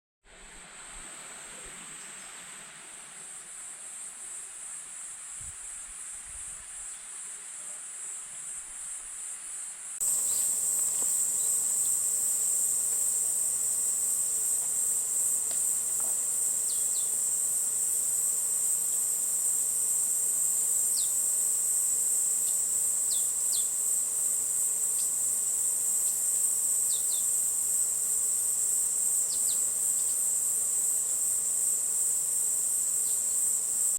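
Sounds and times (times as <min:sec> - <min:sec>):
high-pitched insect chorus: 0:00.7 - 0:33.9.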